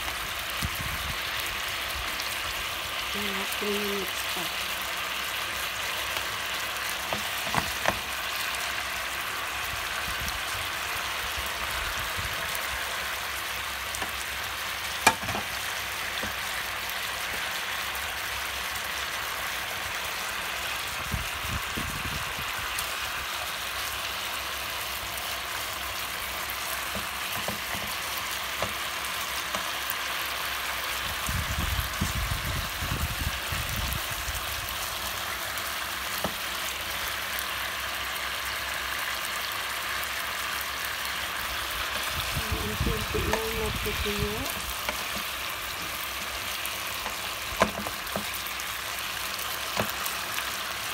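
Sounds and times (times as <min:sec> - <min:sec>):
meat sizzling in a frying pan: 0:00.0 - 0:50.9.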